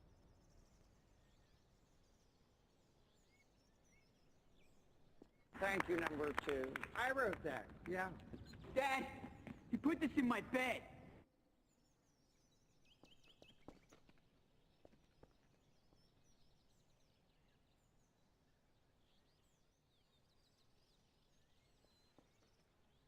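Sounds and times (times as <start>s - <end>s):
distant bird chirps: 0.0s - 23.0s.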